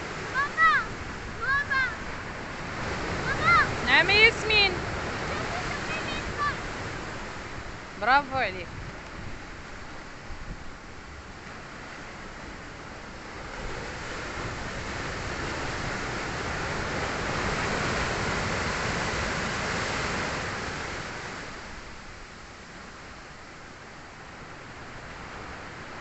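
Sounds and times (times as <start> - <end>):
ocean wave breaking: 0.0 - 26.0.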